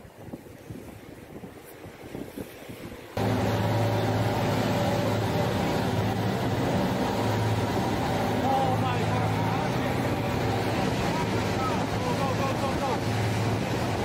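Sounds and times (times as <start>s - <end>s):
faint wind: 0.0s - 14.0s
surf: 0.0s - 14.0s
boat engine humming: 2.6s - 14.0s.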